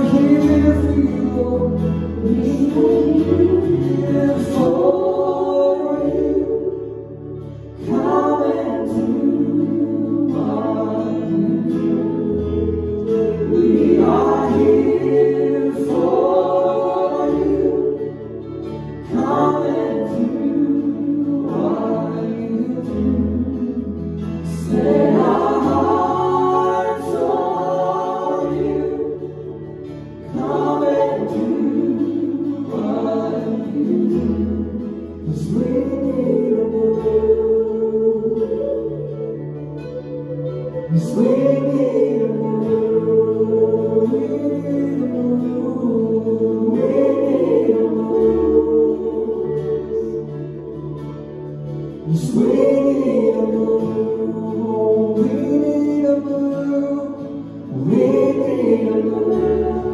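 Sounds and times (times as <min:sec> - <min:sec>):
people singing worship song: 0:00.0 - 0:59.9.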